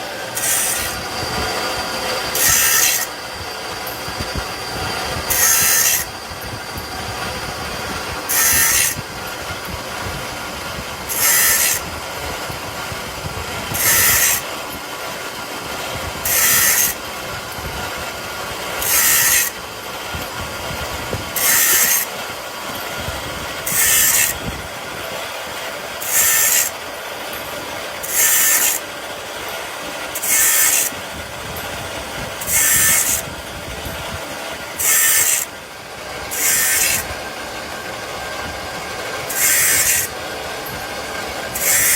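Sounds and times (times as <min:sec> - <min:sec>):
machinery running: 0:00.0 - 0:41.9
rasping metalworking hiss: 0:00.0 - 0:41.9.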